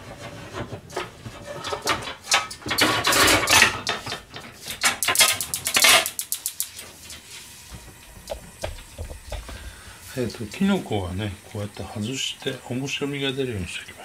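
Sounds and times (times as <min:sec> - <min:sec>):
pots and pans clattering: 0:00.0 - 0:12.6.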